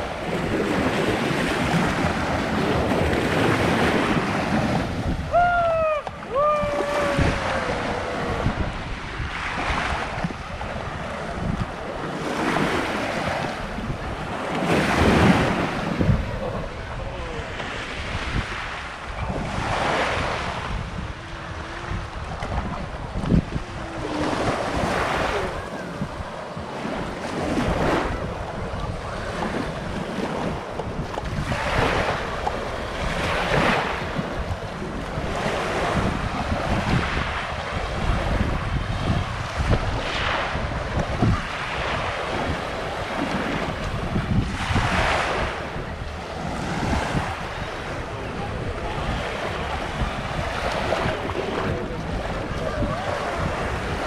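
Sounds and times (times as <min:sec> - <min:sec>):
small waves breaking on beach: 0:00.0 - 0:54.0
wind buffeting microphone: 0:00.0 - 0:54.0.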